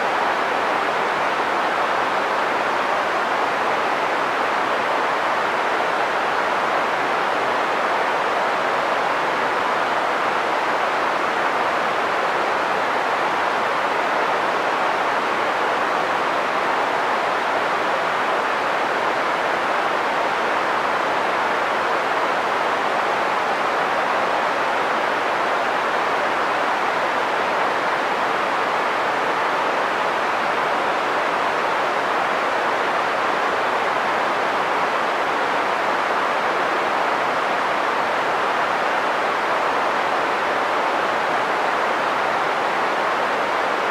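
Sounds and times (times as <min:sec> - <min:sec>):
steady green noise hiss: 0:00.0 - 0:43.9.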